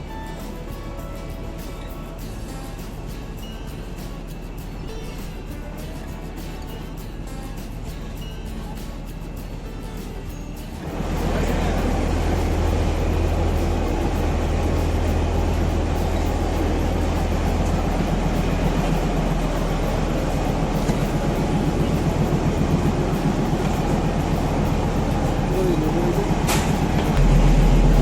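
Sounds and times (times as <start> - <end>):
train rumbling on track: 0.0 - 28.0.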